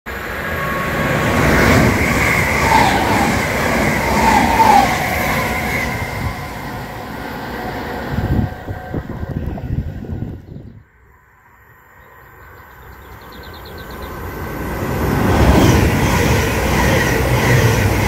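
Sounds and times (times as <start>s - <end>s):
train wheels rushing on rail: 0.1s - 10.6s, 13.7s - 18.0s.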